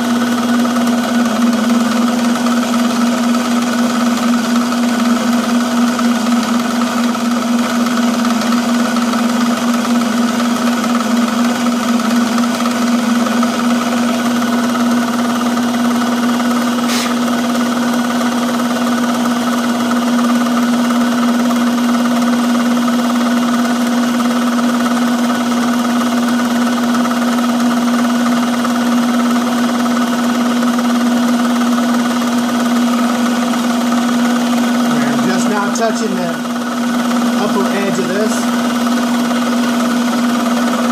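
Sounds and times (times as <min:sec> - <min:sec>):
milling machine whine: 0:00.0 - 0:40.9.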